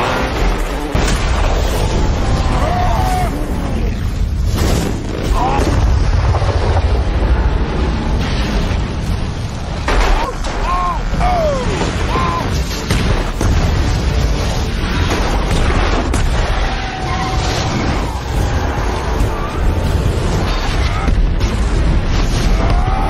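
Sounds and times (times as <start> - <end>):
explosions rumbling: 0.0 - 23.0.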